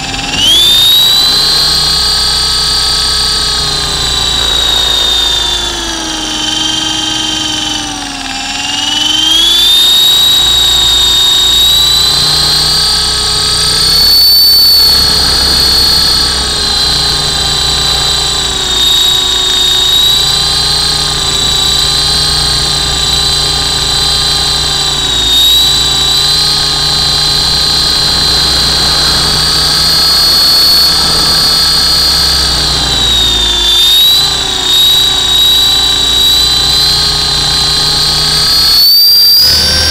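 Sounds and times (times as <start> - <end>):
helicopter rotor noise: 0.0 - 39.9
high motor whine: 0.0 - 39.9.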